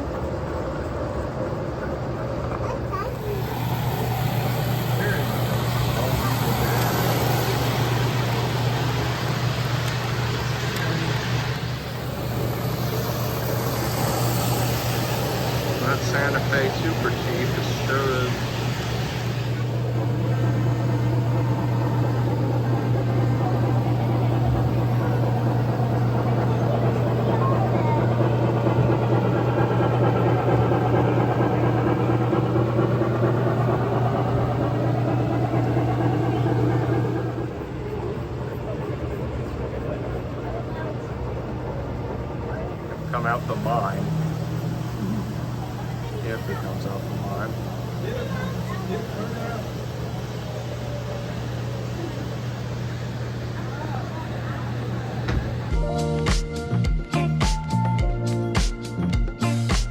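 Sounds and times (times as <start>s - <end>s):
model train hum and rumble: 0.0s - 59.9s.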